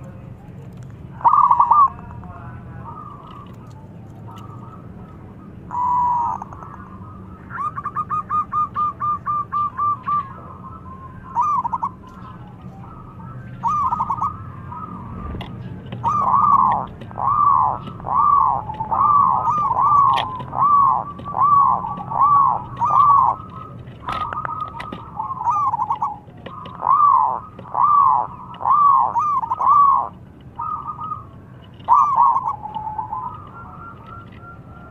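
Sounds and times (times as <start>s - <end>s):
dove cooing: 1.1s - 34.9s.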